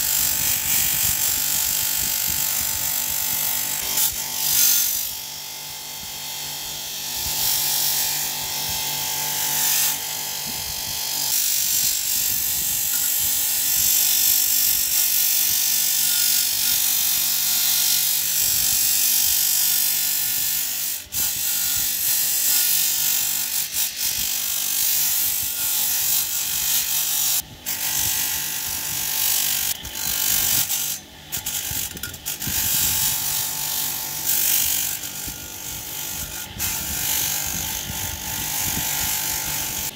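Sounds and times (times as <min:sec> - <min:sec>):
bench grinder motor hum: 0:00.0 - 0:39.9
blade scraping on grinding wheel: 0:00.0 - 0:39.9.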